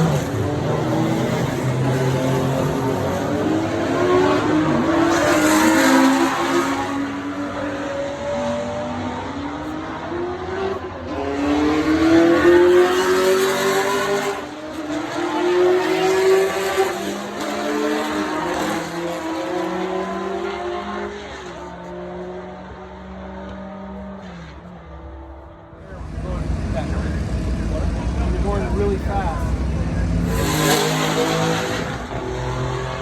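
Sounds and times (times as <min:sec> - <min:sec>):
car engine accelerating hard: 0:00.0 - 0:24.6, 0:25.7 - 0:33.0.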